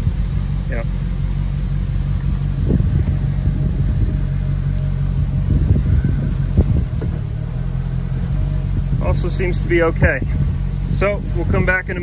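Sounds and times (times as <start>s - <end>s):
boat engines idling: 0.0s - 12.0s
low knocks of gear shifting: 0.0s - 12.0s.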